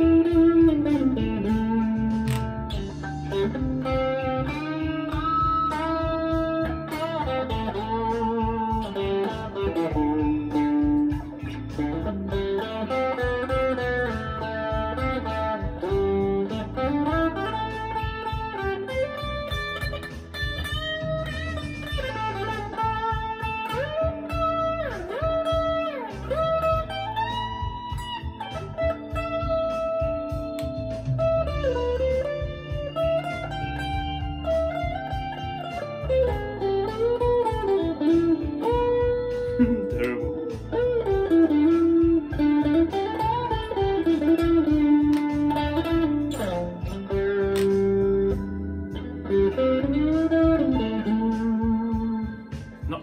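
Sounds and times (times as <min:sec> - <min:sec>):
bass and drums backing track: 0:00.0 - 0:53.0
electric guitar lead line: 0:00.0 - 0:53.0.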